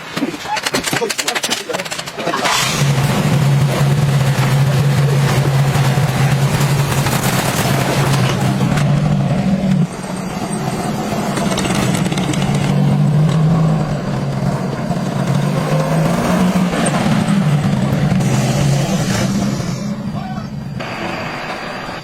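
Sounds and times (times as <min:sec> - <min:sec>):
car engine running: 0:00.9 - 0:22.0.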